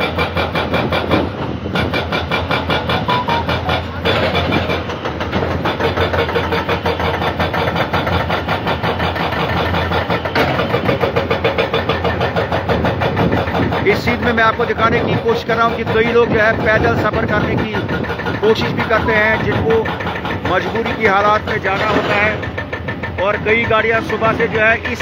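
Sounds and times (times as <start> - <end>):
excavator diesel engines throbbing: 0.0 - 25.0.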